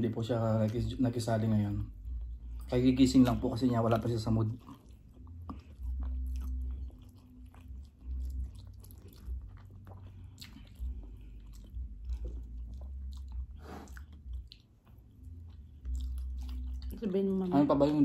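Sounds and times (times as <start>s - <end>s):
chewing and biting food: 0.3s - 18.0s
wet mouth sounds: 1.9s - 17.0s.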